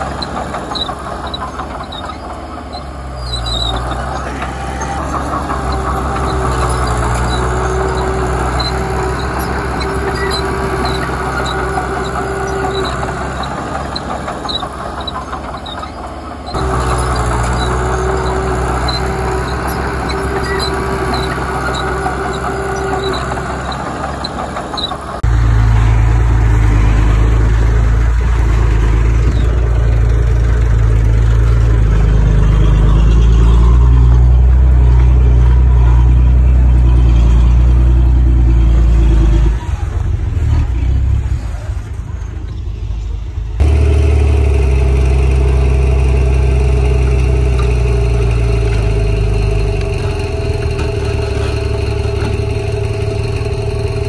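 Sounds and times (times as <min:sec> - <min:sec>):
diesel engines rumbling: 0:00.0 - 0:54.0.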